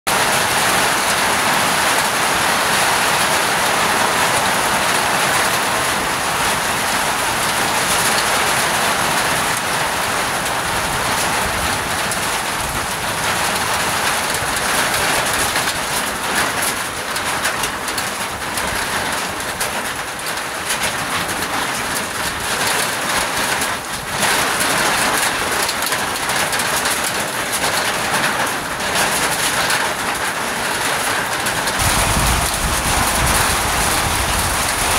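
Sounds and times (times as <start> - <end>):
heavy rain on leaves and metal roof: 0.1 - 34.9.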